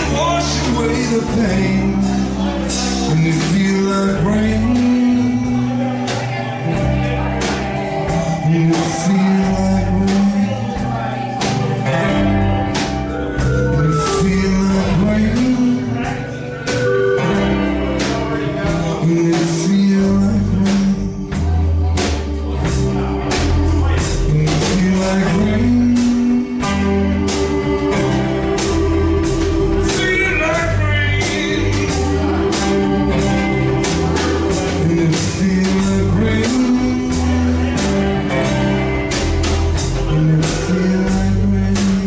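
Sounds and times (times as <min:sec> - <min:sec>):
acoustic guitar: 0:00.0 - 0:42.0
drum kit and cymbals: 0:00.0 - 0:42.0
electric bass: 0:00.0 - 0:42.0
man singing: 0:00.0 - 0:42.0.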